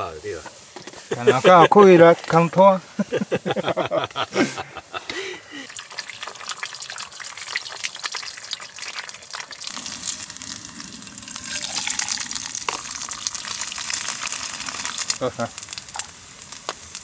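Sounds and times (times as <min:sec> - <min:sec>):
food sizzling in a frying pan: 0:00.0 - 0:04.0, 0:05.2 - 0:17.0.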